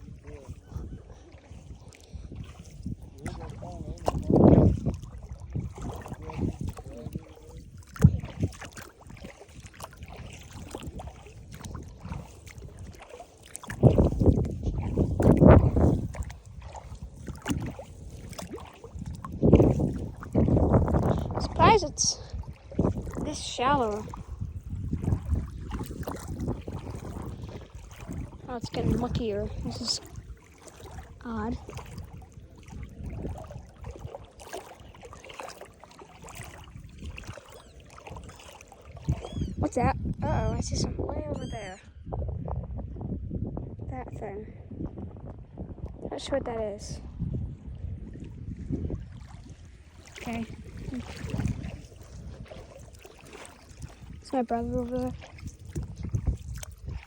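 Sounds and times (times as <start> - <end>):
person wading through water: 0.0 - 42.2, 44.2 - 57.0.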